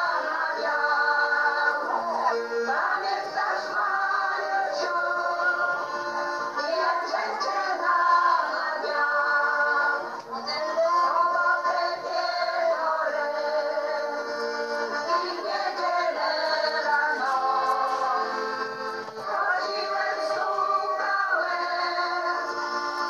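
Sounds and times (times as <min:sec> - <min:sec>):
accordion: 0:00.0 - 0:23.0
women singing folk song: 0:00.0 - 0:23.0.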